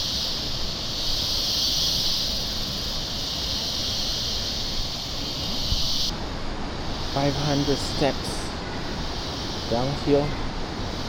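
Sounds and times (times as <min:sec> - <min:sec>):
insects droning: 0:00.0 - 0:11.0
low rumbling outdoor noise: 0:00.0 - 0:11.0.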